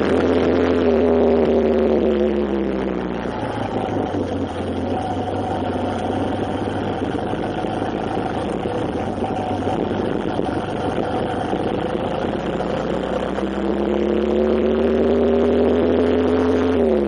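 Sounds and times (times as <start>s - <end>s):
road and wind noise: 0.0s - 17.0s
vehicle engine running: 0.0s - 17.0s.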